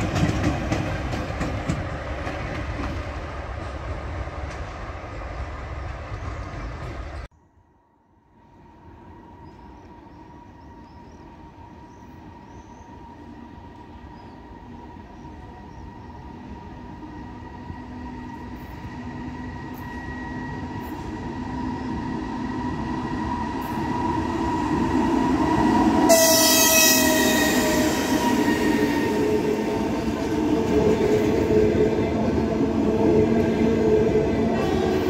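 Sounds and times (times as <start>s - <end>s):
train coaches rolling by: 0.0s - 7.3s, 8.4s - 35.0s
electric locomotive passing: 0.0s - 35.0s.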